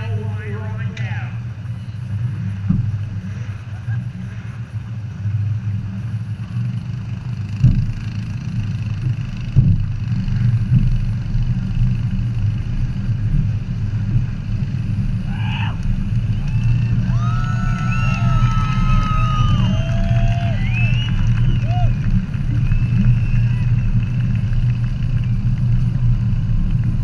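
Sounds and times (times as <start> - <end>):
car engine running at low revs: 0.0 - 27.0.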